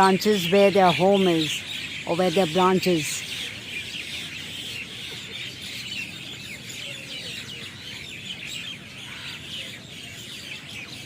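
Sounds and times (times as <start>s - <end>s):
chorus of birds chirping: 0.0s - 11.0s.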